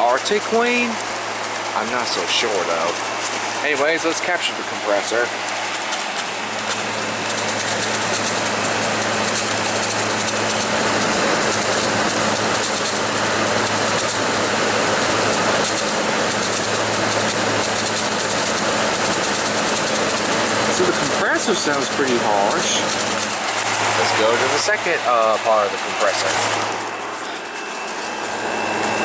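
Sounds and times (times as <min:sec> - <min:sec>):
air conditioner compressor humming: 0:00.0 - 0:29.0
air conditioner fan rushing: 0:00.0 - 0:29.0.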